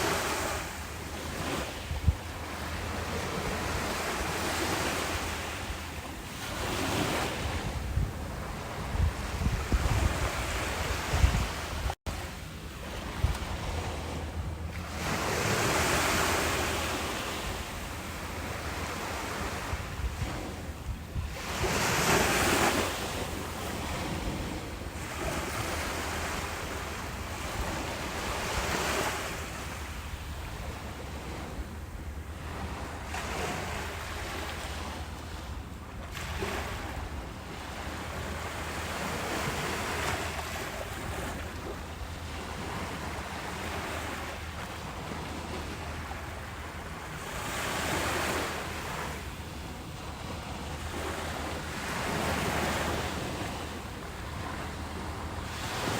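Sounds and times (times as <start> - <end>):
ocean waves breaking on beach: 0.0 - 55.9
wind rumble on microphone: 0.0 - 55.9.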